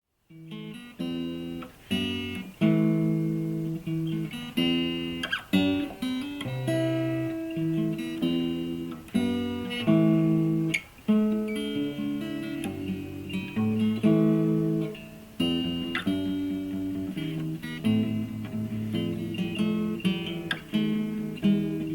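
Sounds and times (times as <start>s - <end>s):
fingerstyle acoustic guitar: 0.2s - 21.9s.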